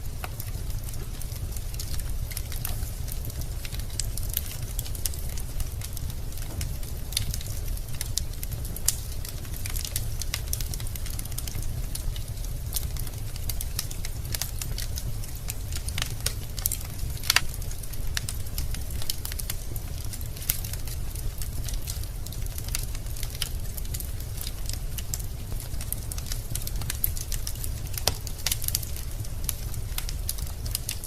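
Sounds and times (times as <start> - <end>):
logs crackling and popping: 0.0 - 31.0
low rumble of flames: 0.0 - 31.0.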